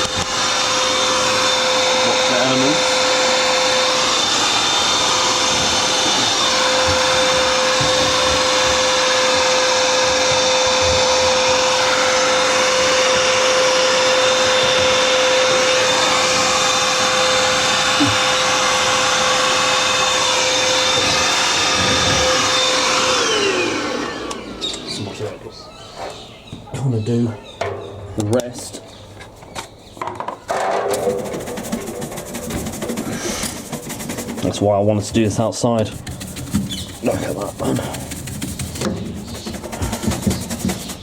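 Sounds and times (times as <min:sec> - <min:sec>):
vacuum cleaner running: 0:00.0 - 0:25.6, 0:30.5 - 0:41.0.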